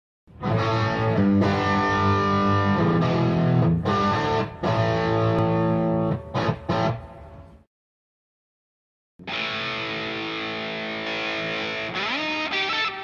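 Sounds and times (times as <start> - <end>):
distorted electric guitar chords: 0.3 - 7.6, 9.2 - 13.0.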